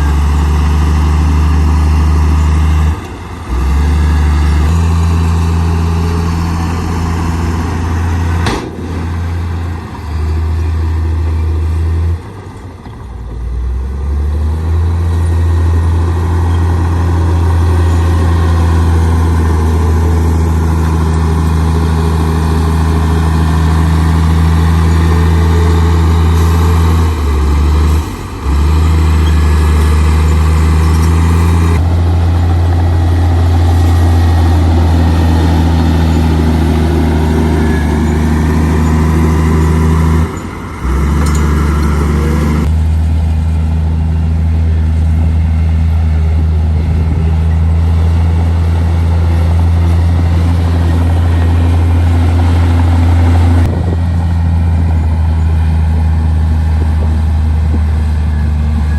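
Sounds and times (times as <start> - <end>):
diesel machinery engine running: 0.0 - 58.9.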